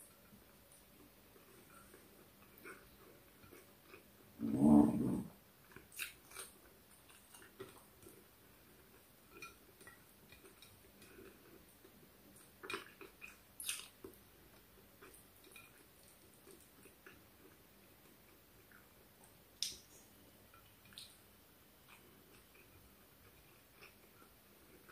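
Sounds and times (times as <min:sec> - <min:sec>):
person chewing food: 0:00.8 - 0:19.9, 0:21.8 - 0:24.9.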